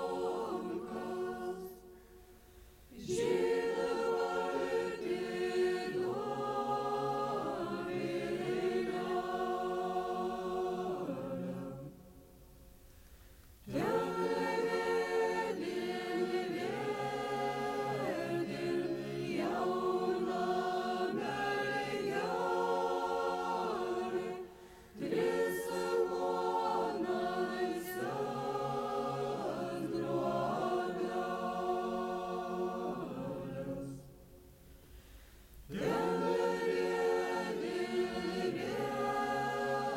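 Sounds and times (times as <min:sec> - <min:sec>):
choir singing a cappella: 0:00.0 - 0:12.6, 0:13.6 - 0:34.9, 0:35.6 - 0:39.9.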